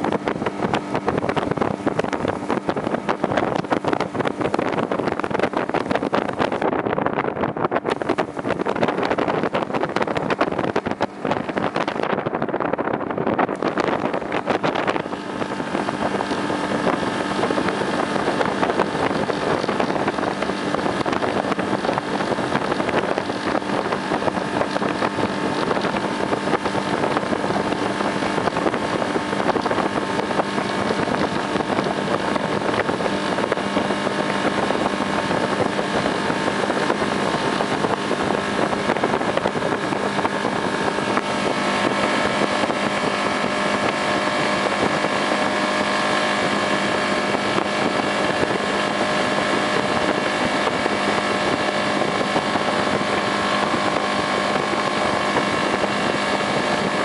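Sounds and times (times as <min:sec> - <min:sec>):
motorboat engine running: 0:00.0 - 0:57.0
water rushing: 0:00.0 - 0:57.0
wind noise: 0:00.0 - 0:57.0.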